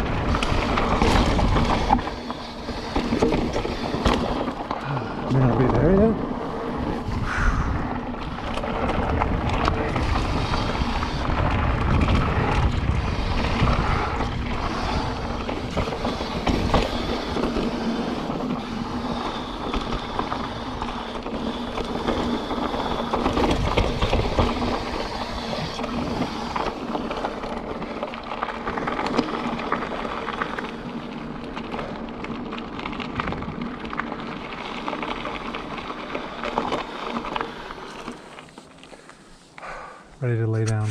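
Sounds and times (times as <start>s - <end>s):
bike frame and chain rattling: 0.0s - 39.3s
tyres rumbling on dirt: 0.0s - 40.9s.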